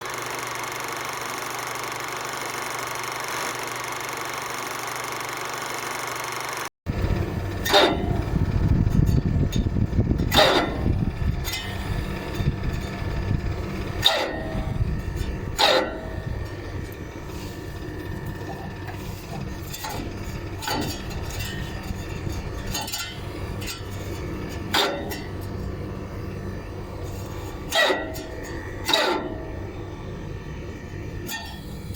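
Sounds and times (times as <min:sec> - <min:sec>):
fan motor humming and whining: 0:00.0 - 0:31.9.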